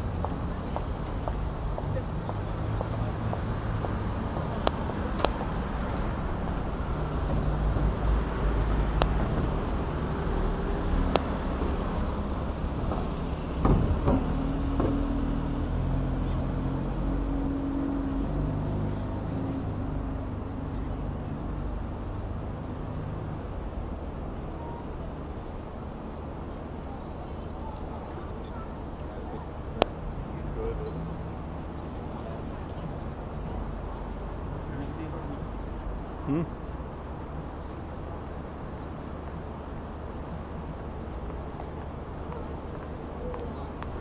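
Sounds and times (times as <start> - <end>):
vehicles passing: 0.0 - 44.0.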